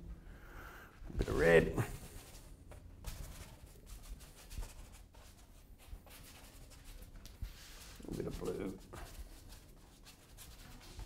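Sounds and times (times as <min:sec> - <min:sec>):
paintbrush brushing on canvas: 0:01.2 - 0:11.0.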